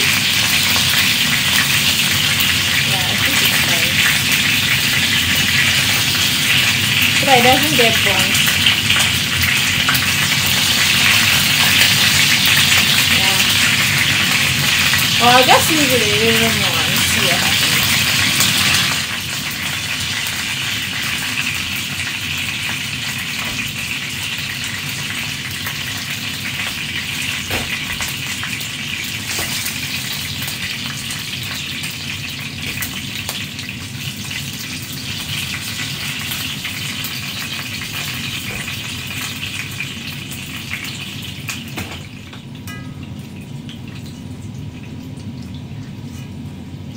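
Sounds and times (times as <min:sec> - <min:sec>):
meat sizzling in hot oil: 0:00.0 - 0:46.9.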